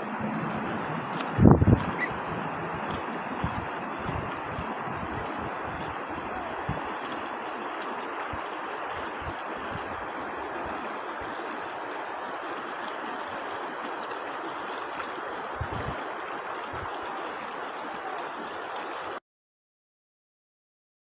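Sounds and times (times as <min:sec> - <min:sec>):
floodwater rushing: 0:00.0 - 0:19.2.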